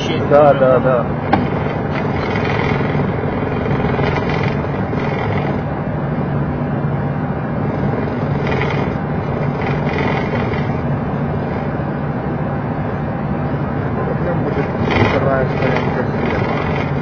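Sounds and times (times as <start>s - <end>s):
air conditioning airflow: 0.0s - 17.0s
jet engines idling: 0.0s - 17.0s.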